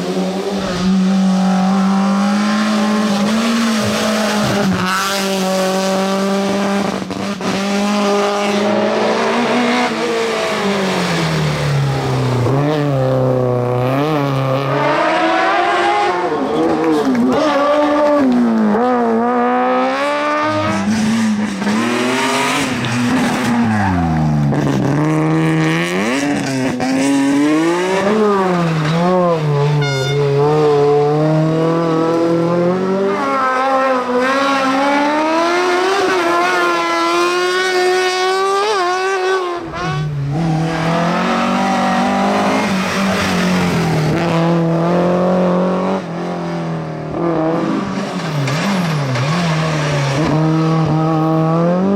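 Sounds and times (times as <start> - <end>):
race car engines revving: 0.0 - 51.9.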